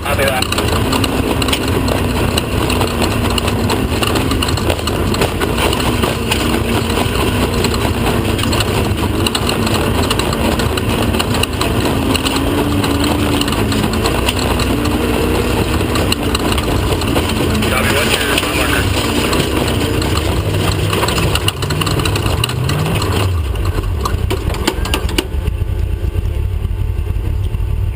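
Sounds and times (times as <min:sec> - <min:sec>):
engine droning: 0:00.0 - 0:27.9
short clicks and knocks: 0:00.3 - 0:25.3.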